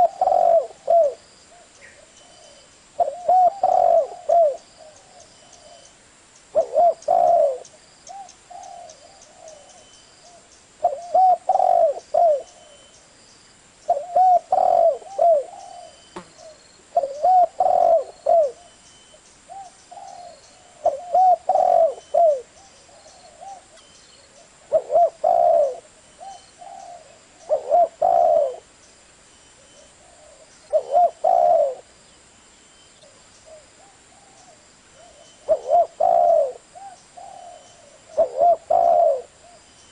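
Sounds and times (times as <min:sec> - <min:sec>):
dove cooing: 0:00.0 - 0:05.9, 0:06.5 - 0:12.9, 0:13.9 - 0:18.8, 0:19.5 - 0:28.7, 0:29.7 - 0:31.9, 0:33.0 - 0:39.7.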